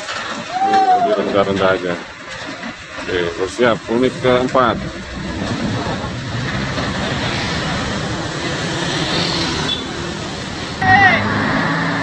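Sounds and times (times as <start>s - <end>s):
diesel truck engines rumbling: 0.0s - 12.0s
motor scooters passing: 0.0s - 12.0s.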